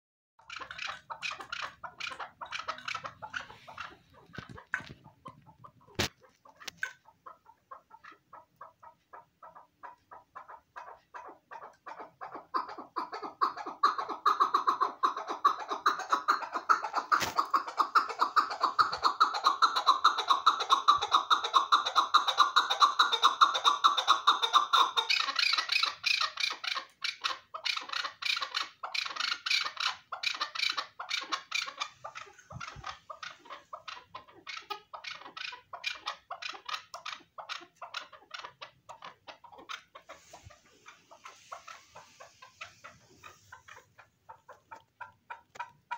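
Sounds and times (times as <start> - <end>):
partridge calling rapid notes: 0.4 - 45.9.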